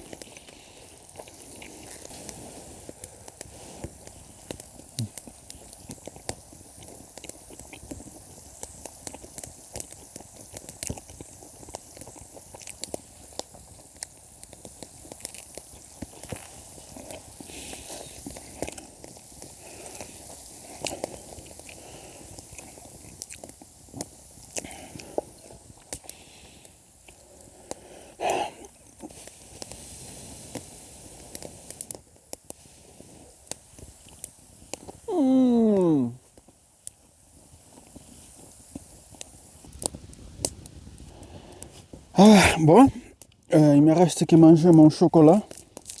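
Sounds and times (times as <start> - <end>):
campfire crackling: 0.0 - 46.0
fire pops and snaps: 0.0 - 46.0
soft hiss of fire: 0.0 - 46.0.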